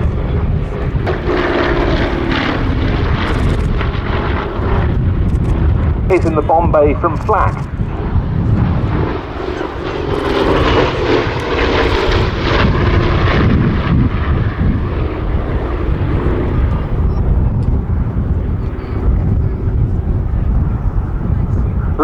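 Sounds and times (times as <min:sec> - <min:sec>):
aircraft radial engines running loud: 0:00.0 - 0:22.0.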